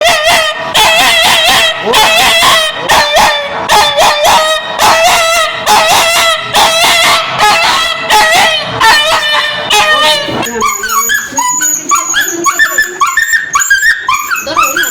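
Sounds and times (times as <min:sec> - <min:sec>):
dog yelping: 0:00.0 - 0:14.9.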